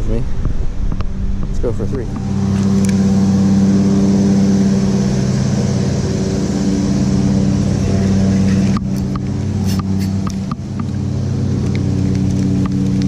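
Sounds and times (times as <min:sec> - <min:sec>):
motor humming: 0:00.3 - 0:13.0.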